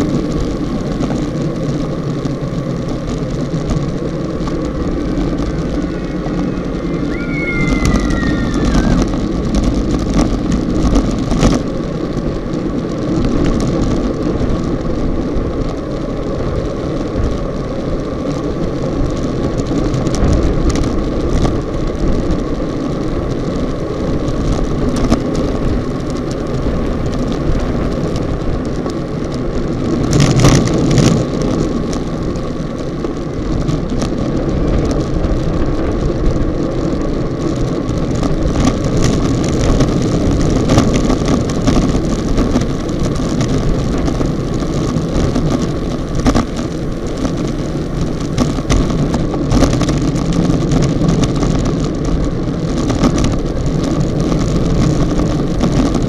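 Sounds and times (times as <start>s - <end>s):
road rumble: 0.0s - 56.0s
wind rushing over microphone: 0.0s - 56.0s.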